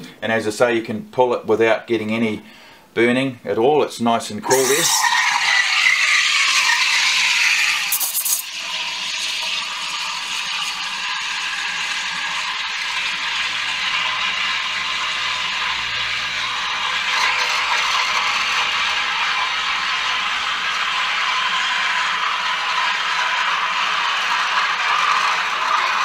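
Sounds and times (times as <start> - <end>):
steam wand hissing in milk: 4.5 - 26.0.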